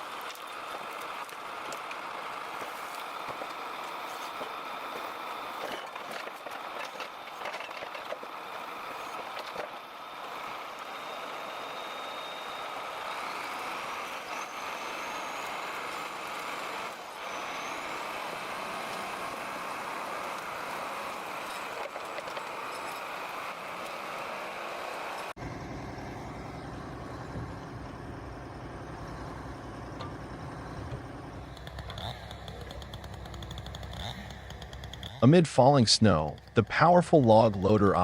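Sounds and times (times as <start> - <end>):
heavy vehicle running: 0.0 - 38.0.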